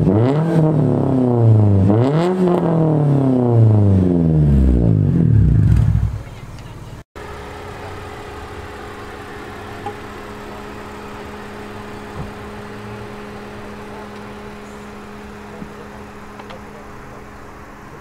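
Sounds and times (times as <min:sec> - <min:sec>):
car engine idling: 0:03.2 - 0:18.0.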